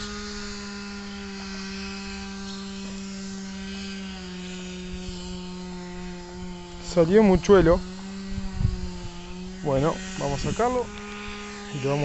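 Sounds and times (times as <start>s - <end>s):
chainsaw droning: 0.0s - 12.0s.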